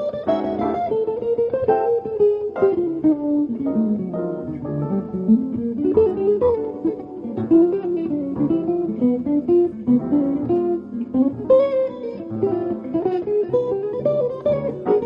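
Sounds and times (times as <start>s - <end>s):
jazz guitar playing: 0.0s - 15.0s.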